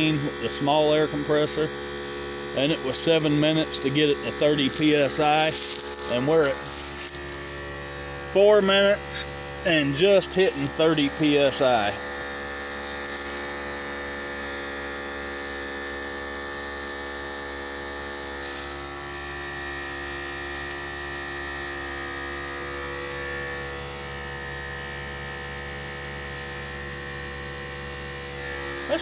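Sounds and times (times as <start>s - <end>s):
air compressor motor buzzing: 0.0s - 29.0s.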